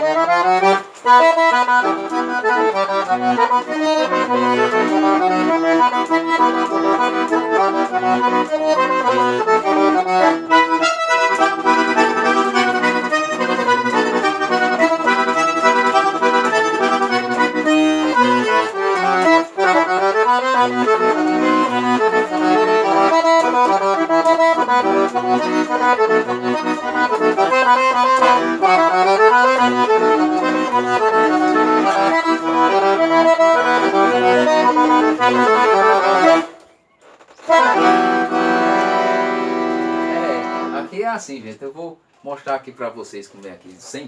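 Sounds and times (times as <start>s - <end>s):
accordion melody: 0.0s - 41.3s.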